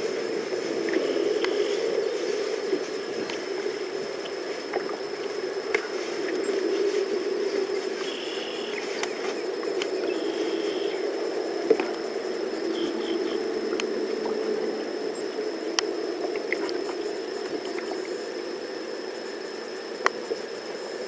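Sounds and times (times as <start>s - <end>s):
rush of water and air: 0.0s - 18.9s.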